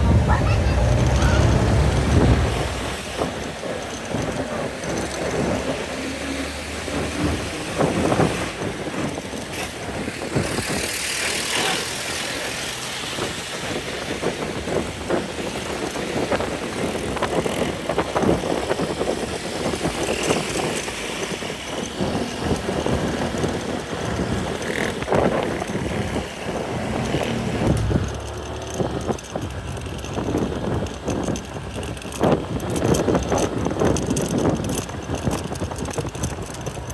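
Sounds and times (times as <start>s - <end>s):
knocks and rattles: 0.0s - 11.2s, 14.3s - 36.9s
road traffic noise: 0.0s - 36.9s
vehicle engine rumble: 0.0s - 36.9s.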